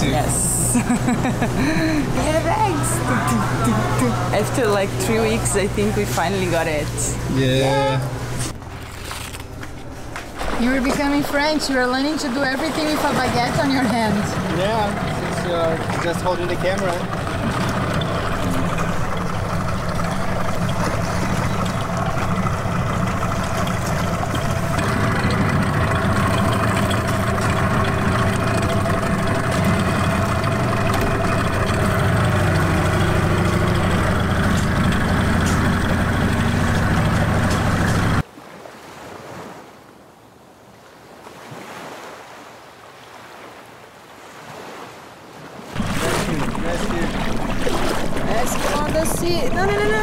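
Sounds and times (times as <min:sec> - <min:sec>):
outboard motor running: 0:00.0 - 0:38.2, 0:45.7 - 0:50.0
wind and sea wash: 0:08.1 - 0:50.0.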